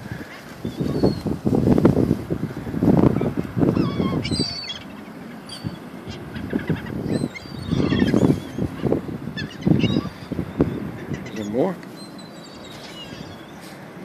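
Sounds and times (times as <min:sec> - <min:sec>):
seagulls squawking: 0:00.0 - 0:01.4, 0:03.1 - 0:13.9.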